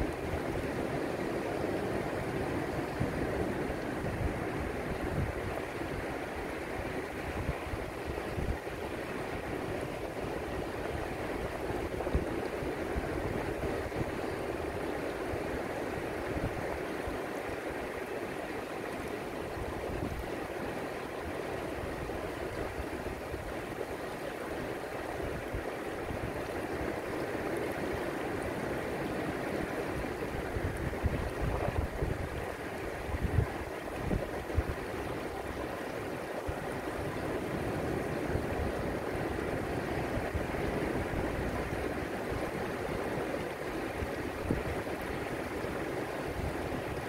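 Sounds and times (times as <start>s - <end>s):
low rumbles of surf: 0.0s - 47.0s
waves washing over rocks: 0.0s - 47.0s.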